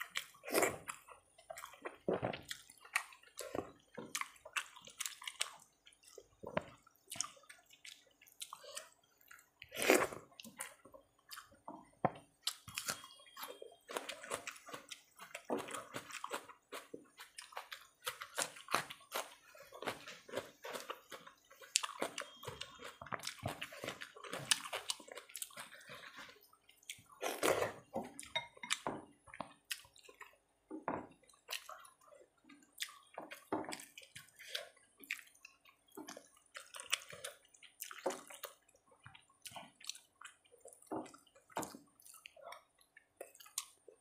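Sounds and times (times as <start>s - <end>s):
chewing: 0.0s - 30.4s, 31.1s - 44.0s.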